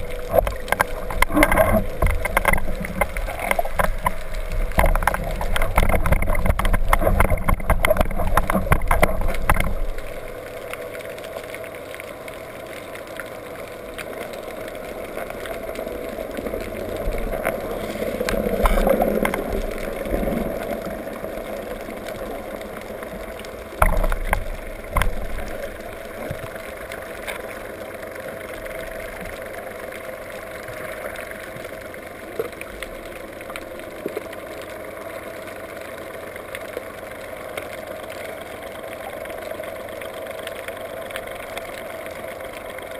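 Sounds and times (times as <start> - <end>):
muffled underwater noise: 0.0 - 42.9.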